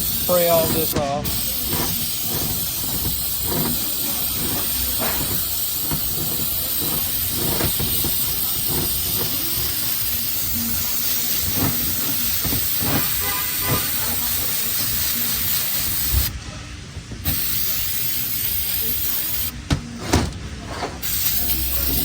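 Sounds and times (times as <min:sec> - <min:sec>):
aerosol spray hissing: 0:00.0 - 0:16.3, 0:17.2 - 0:19.6, 0:21.0 - 0:22.0.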